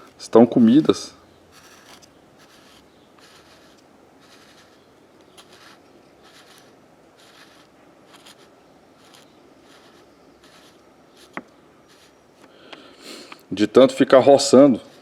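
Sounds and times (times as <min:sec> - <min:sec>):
metal scraping and rubbing: 0:00.0 - 0:12.4.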